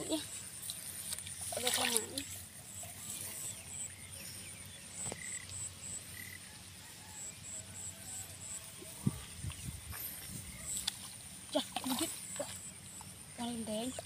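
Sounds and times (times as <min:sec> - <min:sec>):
frogs chirping: 0:00.0 - 0:14.0.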